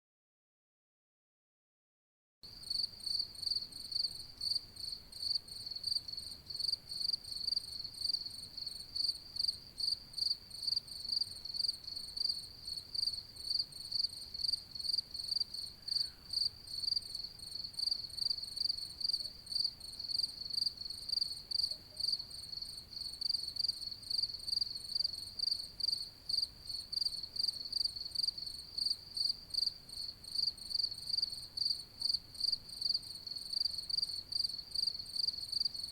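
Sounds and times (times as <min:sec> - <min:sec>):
cricket chirping: 0:02.5 - 0:35.9.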